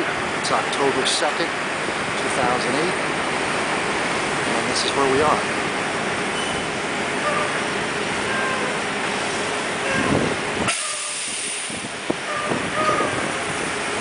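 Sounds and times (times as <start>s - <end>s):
city ambience rushing noise: 0.0s - 14.0s.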